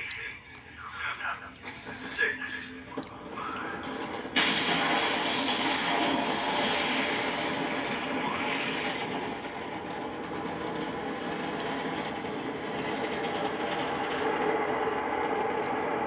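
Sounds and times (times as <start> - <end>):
rocket engines roaring: 0.0 - 16.0.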